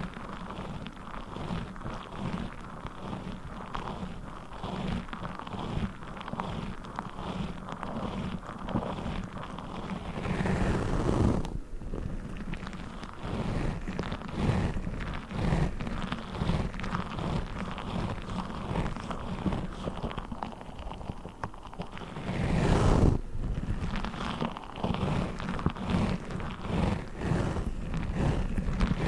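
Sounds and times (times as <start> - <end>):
gel beads squishing by hand: 0.0 - 29.0.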